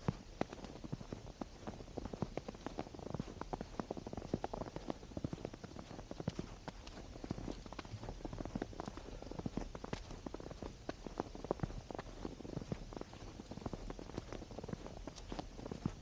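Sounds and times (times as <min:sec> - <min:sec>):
footsteps crunching through snow: 0:00.0 - 0:16.0.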